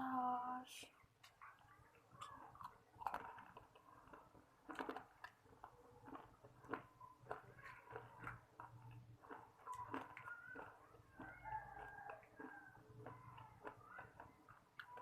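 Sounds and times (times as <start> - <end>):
person chewing crispy chicken: 1.2 - 15.0.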